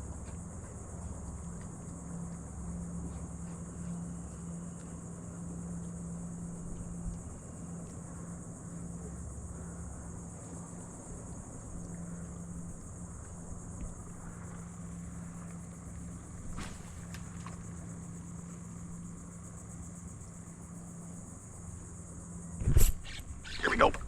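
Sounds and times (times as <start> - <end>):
high-pitched insect drone: 0.0 - 24.0
low steady hum: 0.0 - 24.0.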